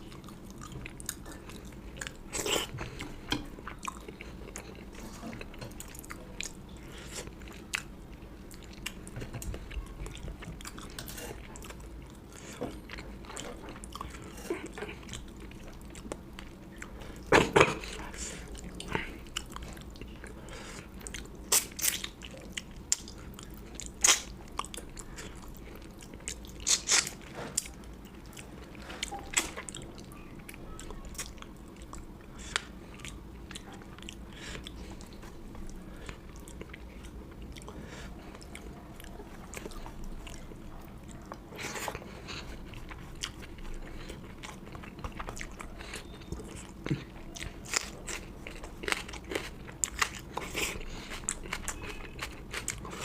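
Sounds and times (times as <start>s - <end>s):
chewing and biting food: 0.0s - 53.0s
steady low hum: 0.0s - 53.0s.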